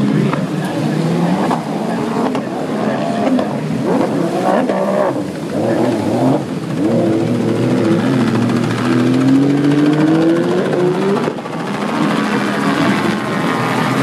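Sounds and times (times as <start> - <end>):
watercraft engines revving: 0.0 - 14.0.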